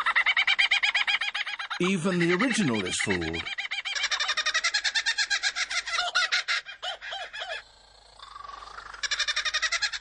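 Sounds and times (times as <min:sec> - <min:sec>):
lyrebird chattering calls: 0:00.1 - 0:07.6, 0:08.4 - 0:10.0.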